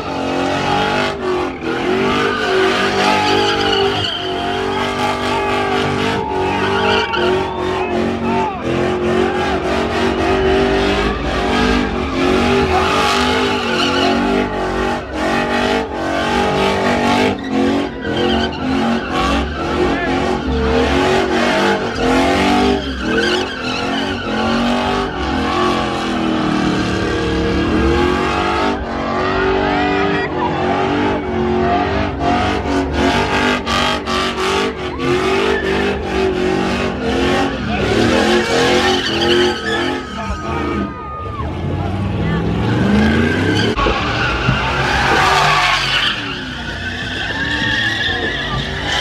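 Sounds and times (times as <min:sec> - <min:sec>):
truck engine revving hard: 0:00.0 - 0:49.0
tyres squealing: 0:00.1 - 0:31.1, 0:32.7 - 0:41.5, 0:42.2 - 0:49.0.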